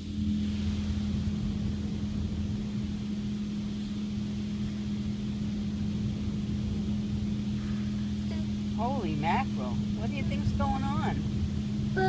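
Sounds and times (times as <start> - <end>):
car wash mechanical hum: 0.0 - 12.0.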